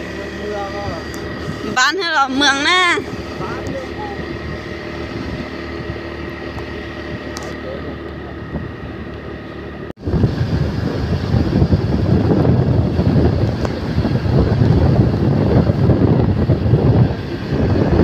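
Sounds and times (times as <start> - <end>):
wind buffeting microphone: 0.0 - 9.2, 10.0 - 18.0.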